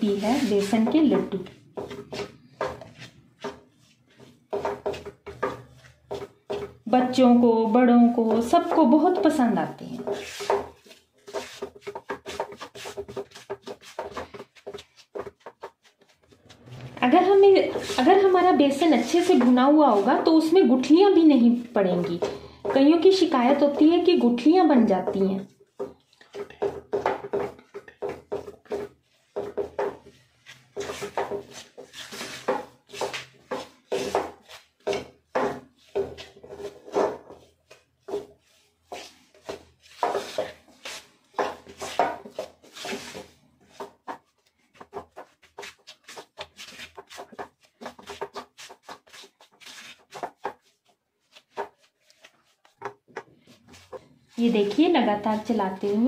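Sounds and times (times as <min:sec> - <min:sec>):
spatula scraping a pan: 0:00.0 - 0:56.0.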